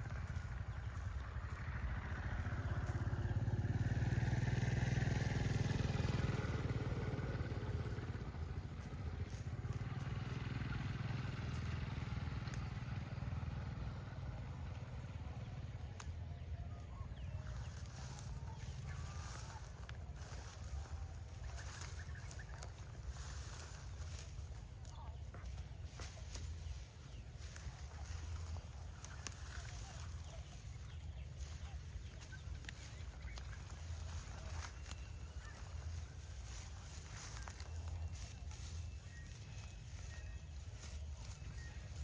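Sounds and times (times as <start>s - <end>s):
motor engine running: 0.0s - 42.0s.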